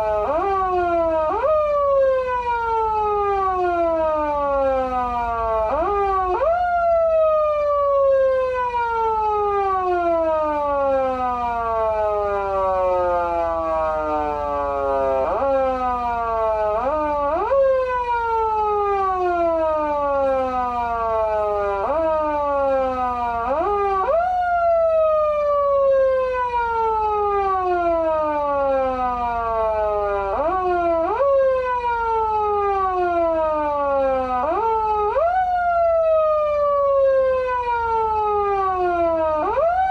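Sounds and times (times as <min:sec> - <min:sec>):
electronic siren wail: 0:00.0 - 0:39.9.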